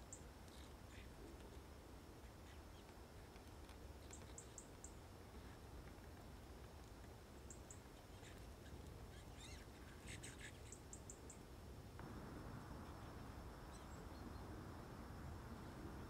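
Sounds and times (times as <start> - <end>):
small birds chipping: 0.0 - 16.0.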